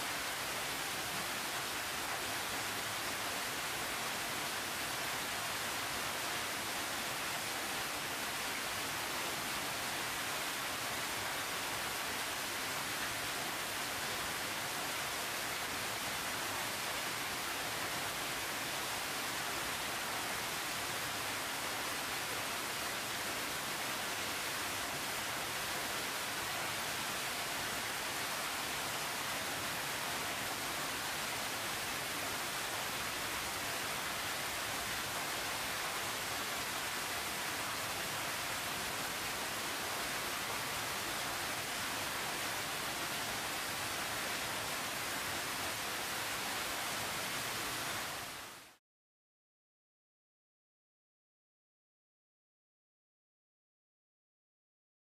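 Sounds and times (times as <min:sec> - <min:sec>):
steady hiss: 0:00.0 - 0:48.8.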